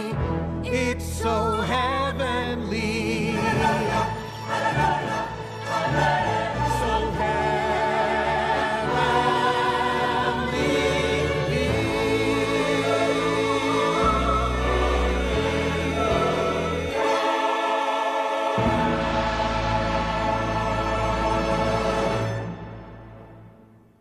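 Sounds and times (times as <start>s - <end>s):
orchestral film score: 0.0s - 24.0s
choir singing held notes: 3.3s - 23.0s.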